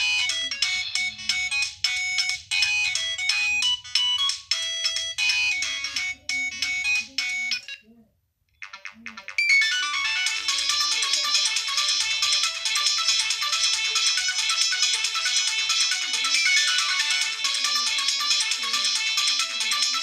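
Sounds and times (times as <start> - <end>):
phone ringtone melody: 0.0 - 7.9, 8.6 - 20.0.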